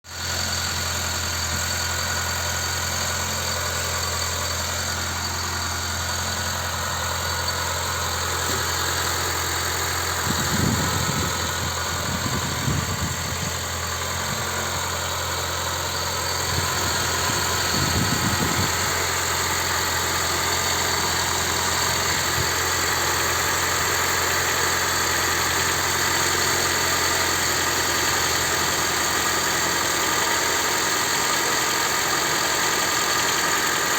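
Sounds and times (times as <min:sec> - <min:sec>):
car engine idling: 0:00.0 - 0:33.9
engine knocking: 0:00.0 - 0:33.9.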